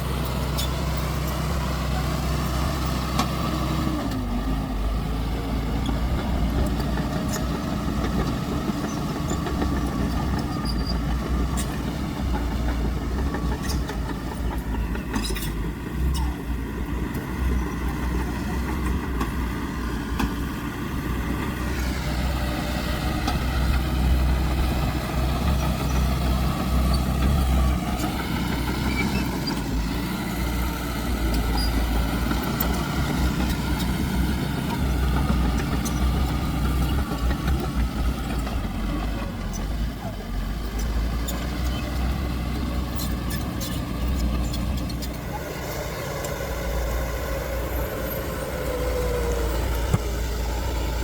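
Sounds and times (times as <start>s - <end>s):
engine whine: 0.0s - 51.0s
heavy diesel machinery rumbling: 0.0s - 51.0s.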